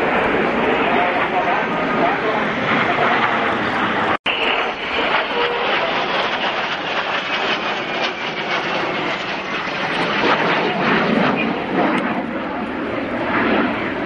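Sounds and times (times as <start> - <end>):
falling jet whine: 0.0 - 14.0
jet aircraft roar: 0.0 - 14.0.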